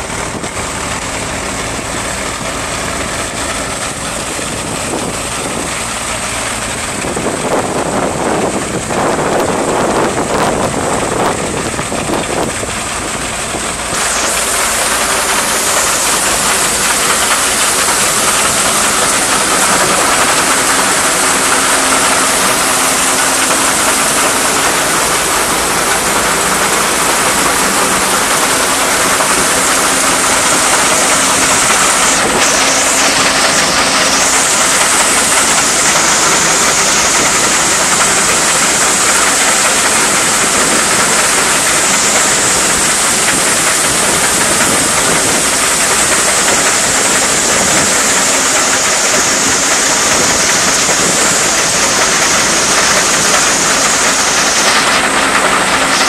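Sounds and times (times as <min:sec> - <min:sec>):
rushing hiss: 0:00.0 - 0:56.0
threshing machine clatter: 0:00.0 - 0:56.0.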